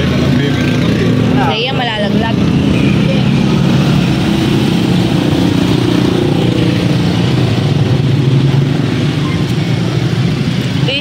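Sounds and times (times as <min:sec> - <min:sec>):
engine running low drone: 0:00.0 - 0:11.0
street traffic: 0:00.0 - 0:11.0.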